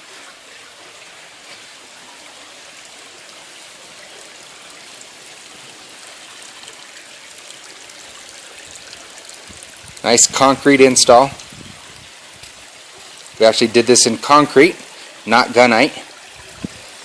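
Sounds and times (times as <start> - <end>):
water falling over rocks: 0.0 - 17.0.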